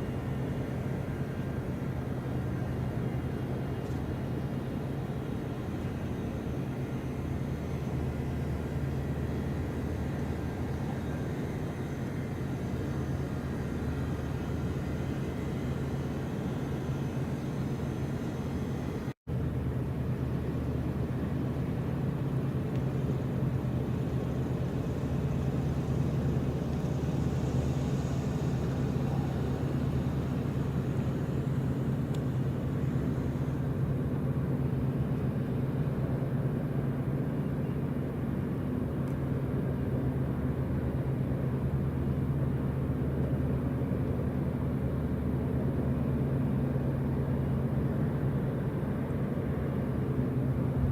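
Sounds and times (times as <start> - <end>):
ship engines droning: 0.0 - 50.9.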